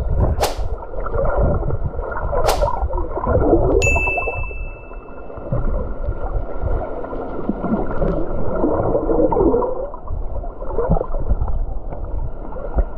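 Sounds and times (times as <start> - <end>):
bubbly gurgles: 0.0 - 3.8, 5.6 - 12.9
underwater churning water: 0.0 - 3.8, 5.2 - 12.9.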